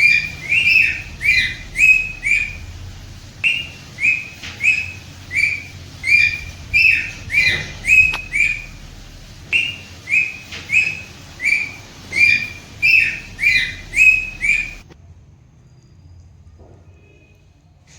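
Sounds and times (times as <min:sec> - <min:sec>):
parrot shrill calls: 0:00.0 - 0:14.9.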